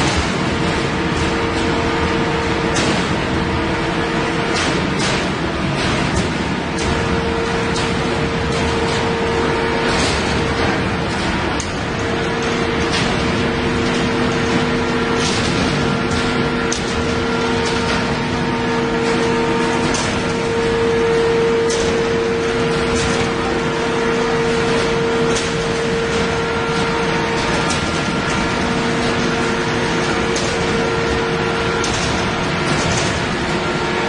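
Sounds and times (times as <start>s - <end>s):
machine hum and whine: 0.0s - 34.0s.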